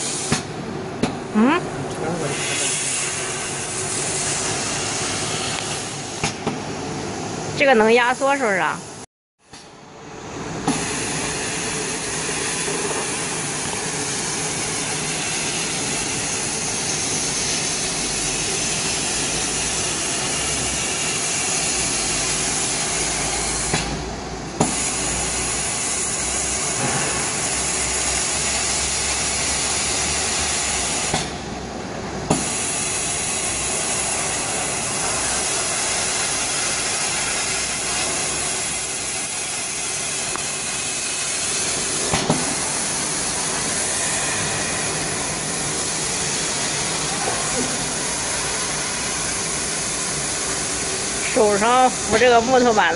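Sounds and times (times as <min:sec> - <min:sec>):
blowing air hiss: 0:02.0 - 0:06.4, 0:10.7 - 0:31.4, 0:32.3 - 0:52.6.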